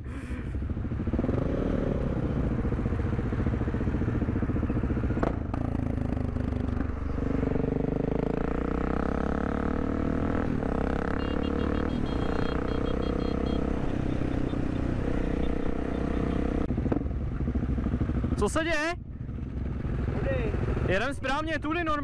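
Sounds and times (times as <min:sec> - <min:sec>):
motorcycle engine revving: 0:00.6 - 0:21.1.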